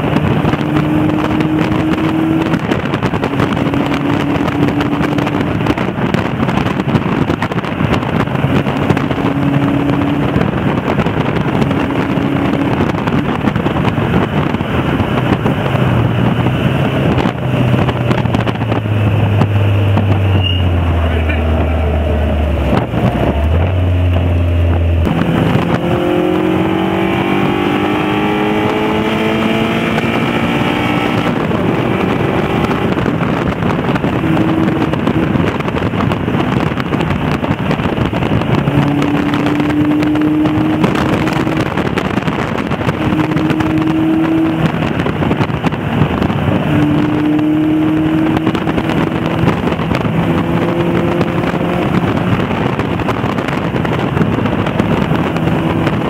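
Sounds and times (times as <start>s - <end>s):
car engine accelerating: 0.0s - 56.0s
wind and road noise: 0.0s - 56.0s.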